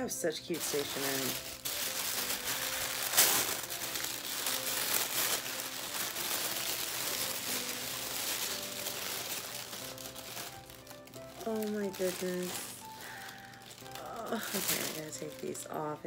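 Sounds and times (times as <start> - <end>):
tissue paper rustling: 0.5 - 15.8.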